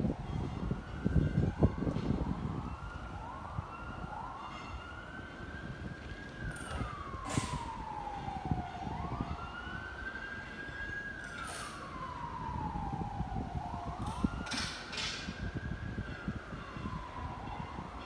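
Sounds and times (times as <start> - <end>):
emergency siren wailing: 0.0 - 18.0
low traffic rumble: 0.0 - 18.0.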